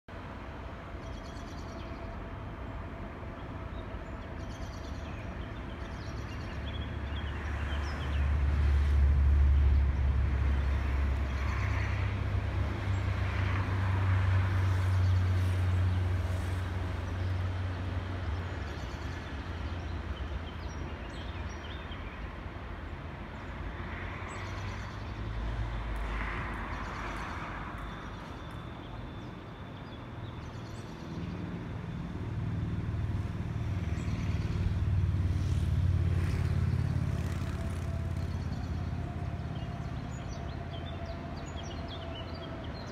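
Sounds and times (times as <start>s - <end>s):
distant traffic and rail rumble: 0.1s - 42.9s.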